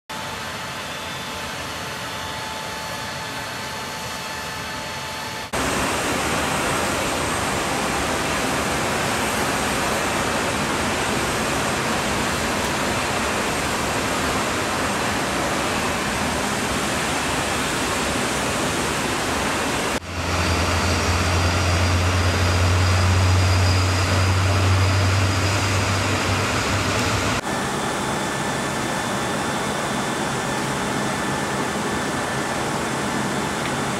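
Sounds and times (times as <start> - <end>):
jet engine roar: 0.1 - 33.9.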